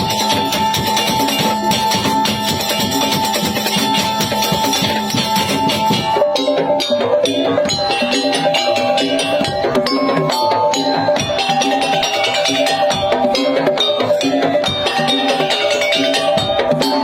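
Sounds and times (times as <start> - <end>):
drums and wooden beaters: 0.0 - 17.0.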